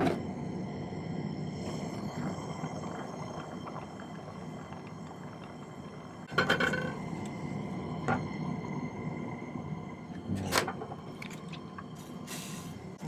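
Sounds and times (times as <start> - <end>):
torch flame roaring: 0.0 - 13.0.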